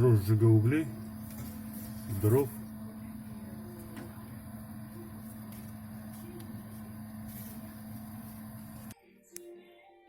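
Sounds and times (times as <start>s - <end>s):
electric air blower humming: 0.0s - 9.0s.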